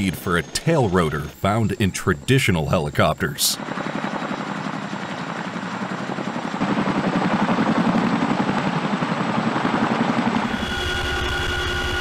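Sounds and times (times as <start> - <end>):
helicopter rotors beating: 0.0 - 12.0.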